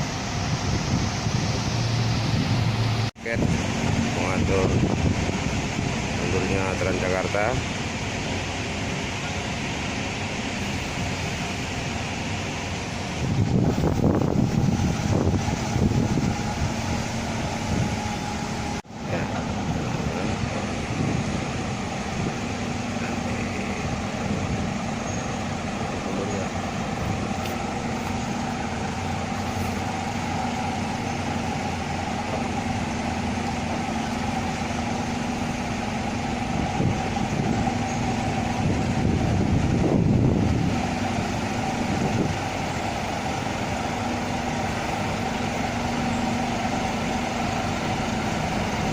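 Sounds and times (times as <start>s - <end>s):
bus diesel engine running: 0.0s - 48.9s
road noise: 0.0s - 48.9s.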